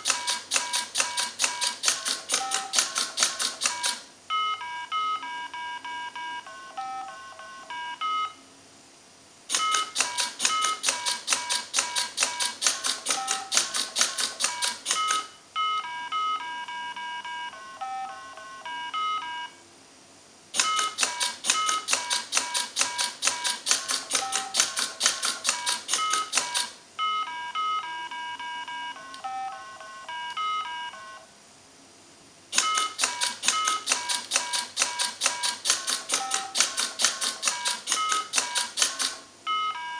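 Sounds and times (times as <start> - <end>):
electronic game beeping tones: 0.0 - 3.0, 3.6 - 8.4, 9.5 - 13.7, 14.4 - 19.6, 20.6 - 24.8, 25.6 - 31.3, 32.6 - 36.7, 37.6 - 38.8.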